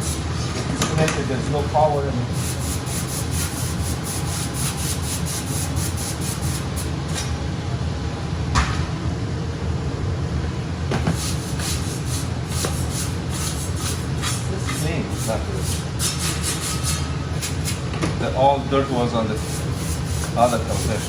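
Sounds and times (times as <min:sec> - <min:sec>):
furnace blower running: 0:00.0 - 0:21.0.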